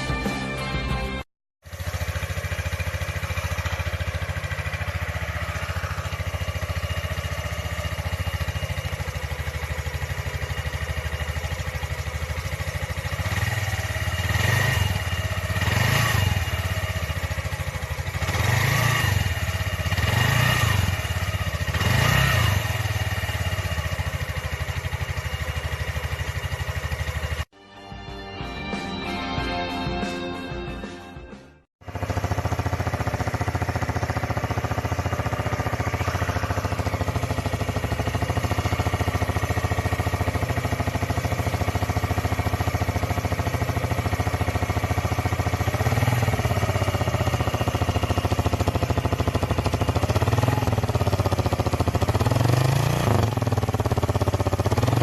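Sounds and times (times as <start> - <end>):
engine revving: 1.6 - 27.5, 31.8 - 55.0
motorcycle engine idling: 1.6 - 27.5, 31.8 - 55.0.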